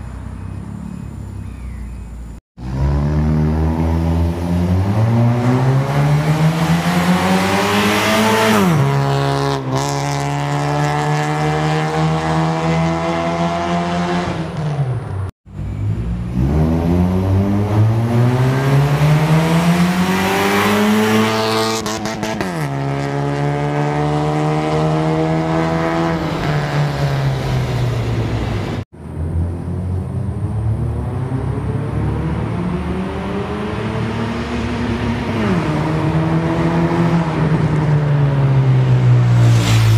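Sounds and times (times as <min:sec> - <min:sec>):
motorcycle engine accelerating hard: 0:02.6 - 0:28.2, 0:29.6 - 0:39.9.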